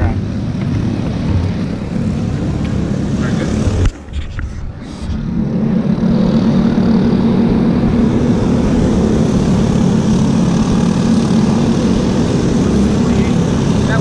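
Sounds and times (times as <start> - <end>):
steady motor drone: 0.0 - 14.0.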